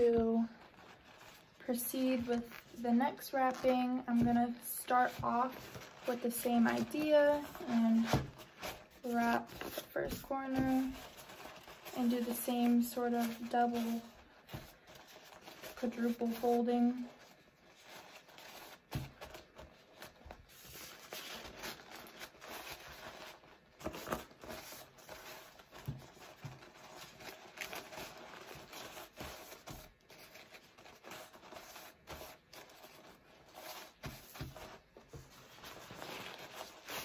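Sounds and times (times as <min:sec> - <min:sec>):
wrap crinkling and rustling: 0:00.0 - 0:37.0.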